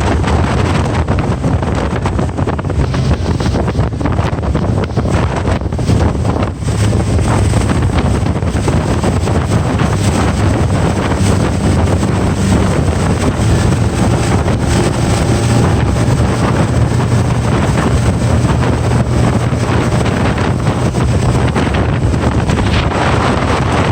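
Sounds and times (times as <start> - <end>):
water rushing: 0.0 - 23.2
outboard motor drone: 0.0 - 23.9
wind buffeting microphone: 0.0 - 23.9.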